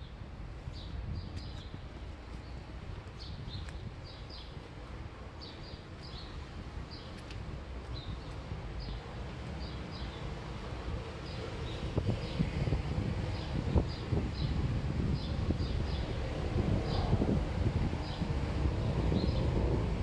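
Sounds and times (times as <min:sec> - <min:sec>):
street noise rumble: 0:00.0 - 0:20.0.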